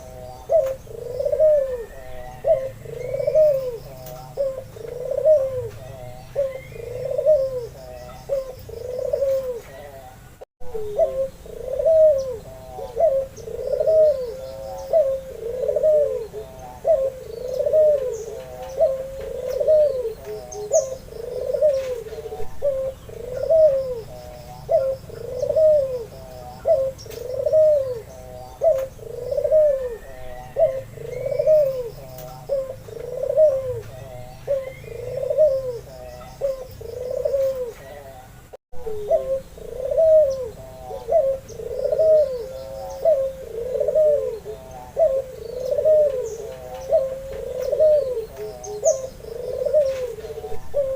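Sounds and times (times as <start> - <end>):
dove cooing: 0.0 - 50.9
small birds chirping: 0.0 - 50.9.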